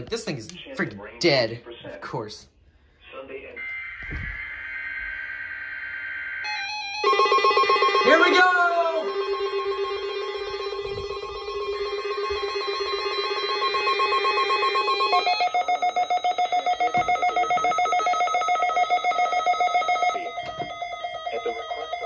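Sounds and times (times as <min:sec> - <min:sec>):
weather radios pulsing alarm beeps: 0:03.5 - 0:22.0.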